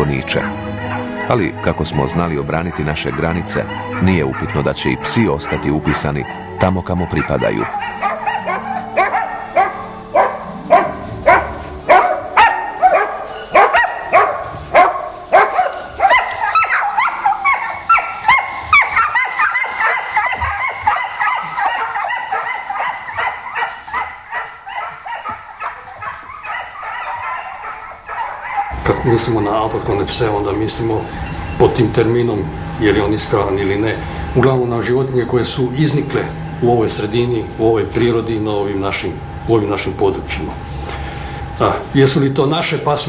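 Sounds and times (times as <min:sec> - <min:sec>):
hounds barking and yelping: 0:00.0 - 0:39.5.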